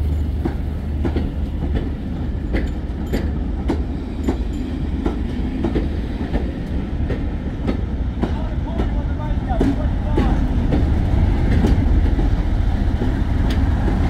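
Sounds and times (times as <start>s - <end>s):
train low rumble: 0.0s - 14.0s
train wheels clicking over rail joints: 0.0s - 14.0s.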